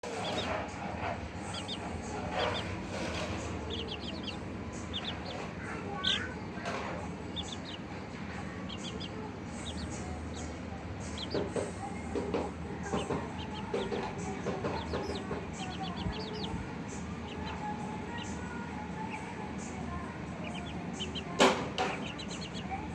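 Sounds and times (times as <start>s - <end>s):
chickens clucking: 0.0s - 22.9s
chicks peeping: 0.0s - 22.9s.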